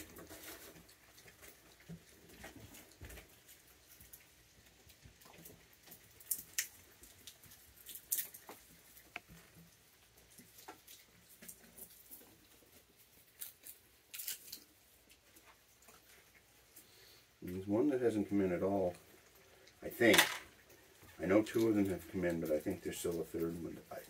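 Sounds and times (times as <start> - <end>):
raccoons chewing and handling food: 0.0 - 24.0.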